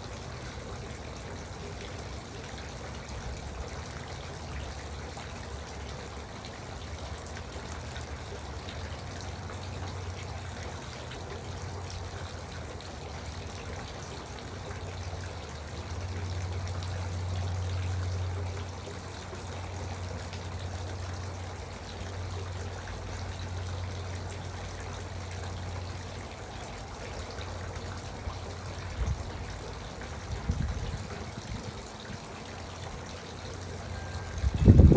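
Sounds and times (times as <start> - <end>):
water fountain trickling: 0.0 - 34.9.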